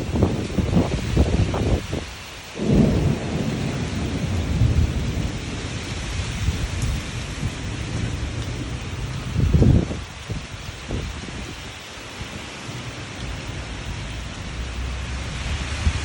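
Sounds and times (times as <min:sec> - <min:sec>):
heavy rain: 0:00.0 - 0:16.0
low thunder rumbles: 0:00.0 - 0:16.0.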